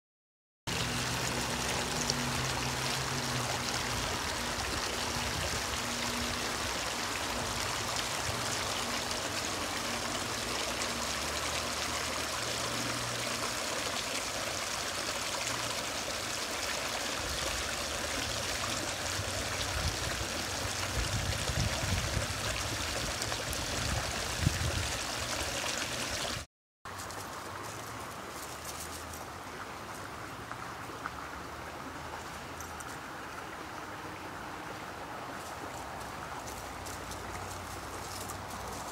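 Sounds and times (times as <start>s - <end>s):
brook running over stones: 0.7s - 38.9s.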